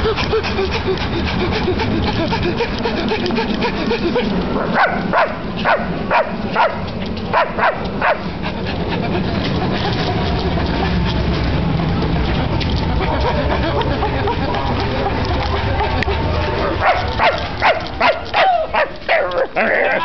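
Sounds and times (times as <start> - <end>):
man panting and yelping like dog: 0.0 - 6.8, 7.4 - 20.0
train rumbling: 0.0 - 19.9.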